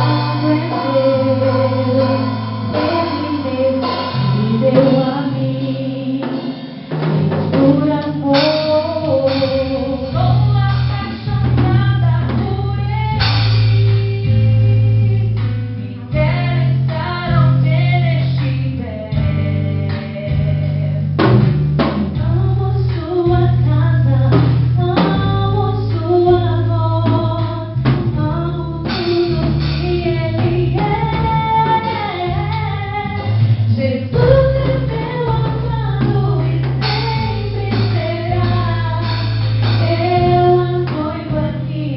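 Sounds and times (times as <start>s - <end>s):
song with singing and drums: 0.0s - 41.9s.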